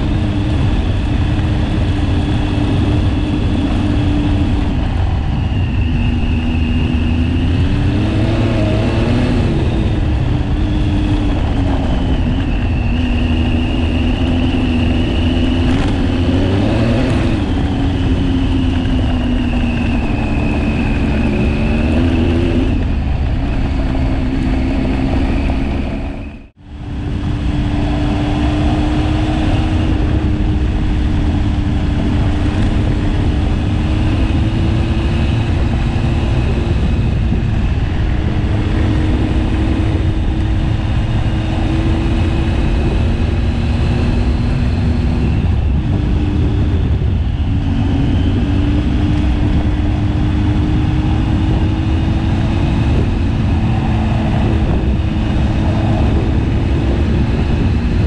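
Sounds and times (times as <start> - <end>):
low rumble: 0.0 - 58.0
motorcycle engine revving: 0.0 - 58.0.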